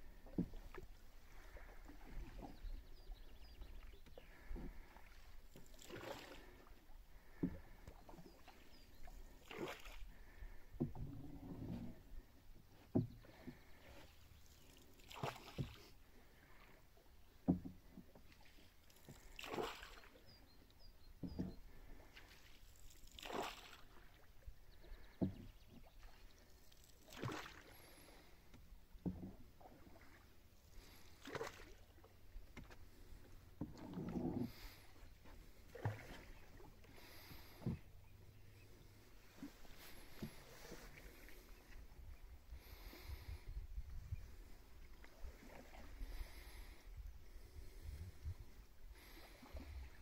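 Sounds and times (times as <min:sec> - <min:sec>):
paddle swishing water: 0:00.0 - 0:50.0.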